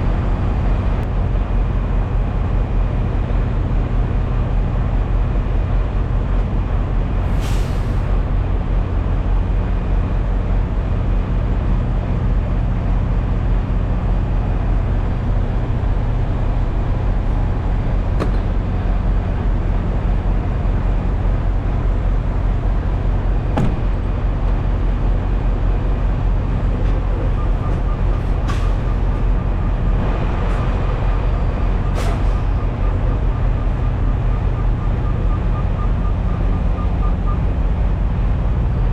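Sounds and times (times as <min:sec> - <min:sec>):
diesel engine drone and road noise: 0:00.0 - 0:38.9.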